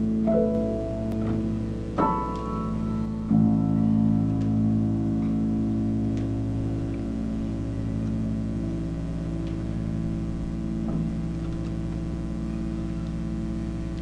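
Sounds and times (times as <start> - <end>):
piano chords ringing: 0.0 - 14.0
soft piano notes: 0.0 - 14.0.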